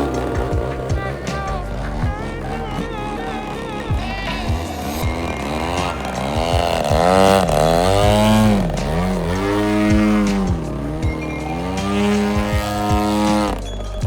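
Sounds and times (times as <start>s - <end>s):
model plane engine: 0.0s - 14.0s.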